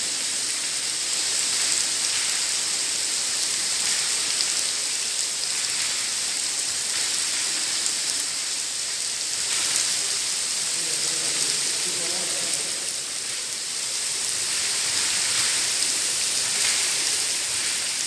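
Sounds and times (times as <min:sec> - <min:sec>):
artificial rain pouring: 0:00.0 - 0:18.0.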